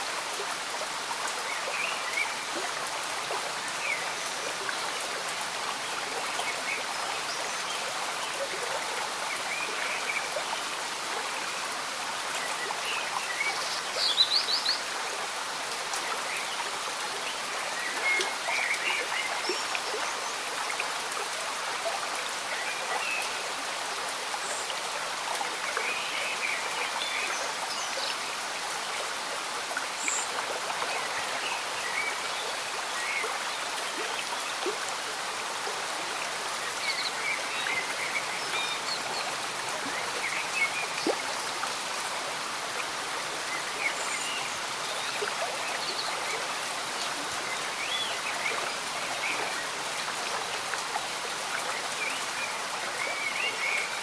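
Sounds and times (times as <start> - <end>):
gentle rain: 0.0 - 54.0
stream bubbling and trickling: 0.0 - 54.0.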